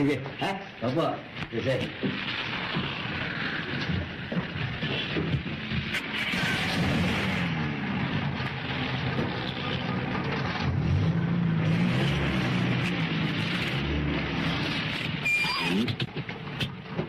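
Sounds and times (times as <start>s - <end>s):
jeep engine driving: 0.0s - 17.0s.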